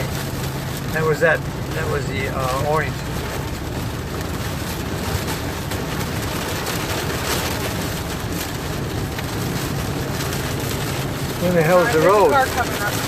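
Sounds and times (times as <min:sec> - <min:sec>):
rain and road spray on car: 0:00.0 - 0:13.0.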